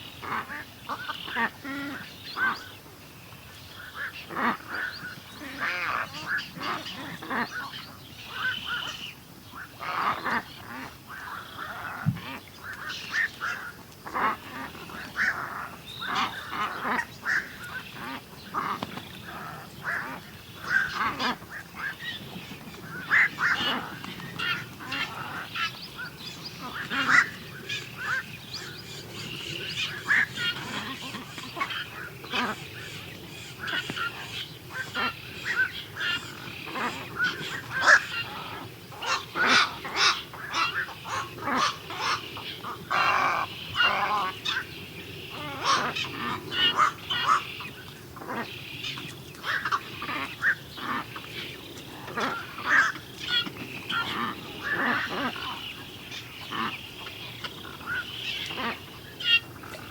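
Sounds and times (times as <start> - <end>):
birds calling: 0.0 - 59.9.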